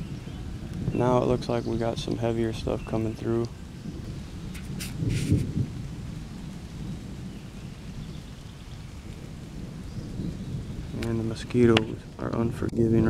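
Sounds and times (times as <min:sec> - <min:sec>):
thunder rumble: 0:00.0 - 0:13.0.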